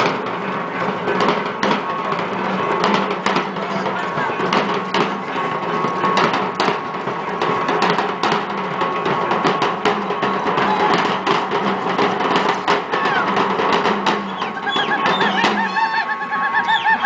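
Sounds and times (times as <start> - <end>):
large drums beating: 0.0 - 16.6.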